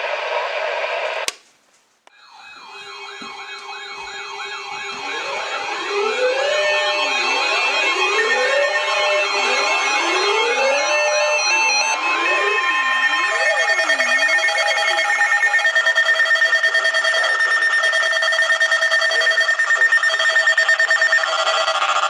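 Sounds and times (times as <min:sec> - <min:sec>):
overlapping alarm tones: 0:02.1 - 0:22.0.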